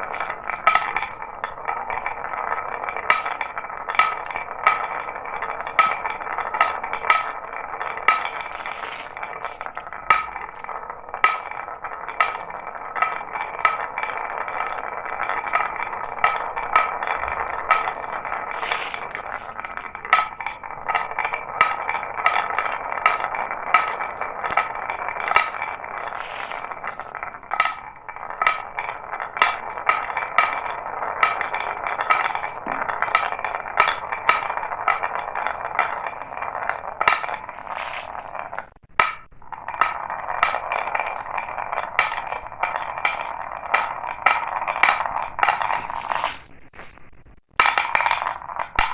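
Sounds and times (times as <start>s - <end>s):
glass marbles rolling down track: 0.0s - 48.9s.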